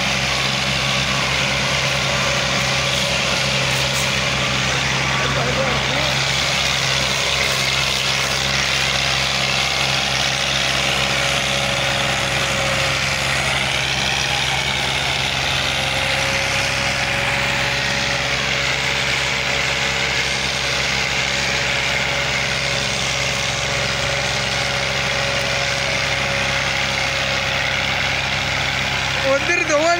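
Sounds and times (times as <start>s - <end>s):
diesel tractor engines under load: 0.0s - 29.9s.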